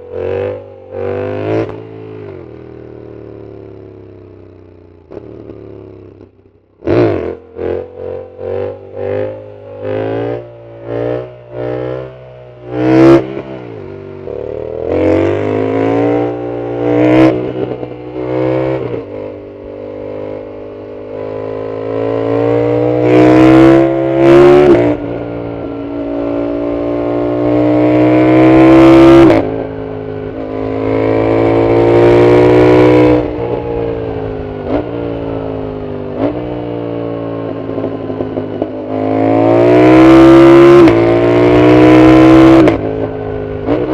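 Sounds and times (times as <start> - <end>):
motorcycle engine revving and accelerating: 0.0 - 43.9.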